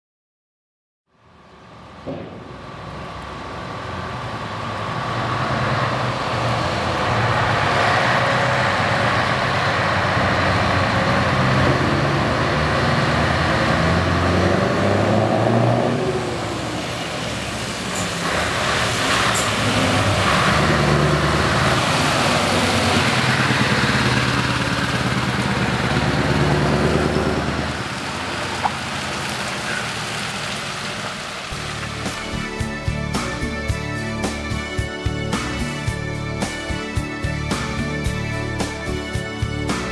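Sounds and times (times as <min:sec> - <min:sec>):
diesel truck engine driving past: 0:01.3 - 0:39.9.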